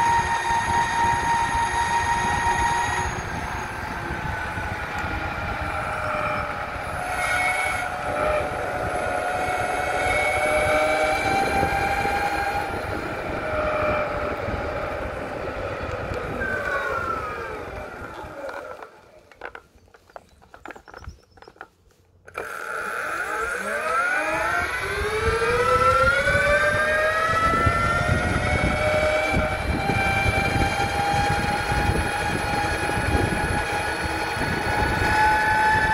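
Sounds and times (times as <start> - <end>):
electric motor whining: 0.0 - 19.0, 22.3 - 35.9.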